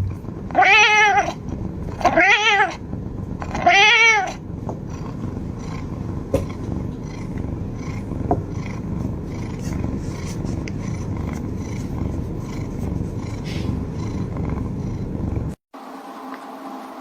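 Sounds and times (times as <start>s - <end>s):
cat purring: 0.0s - 15.6s.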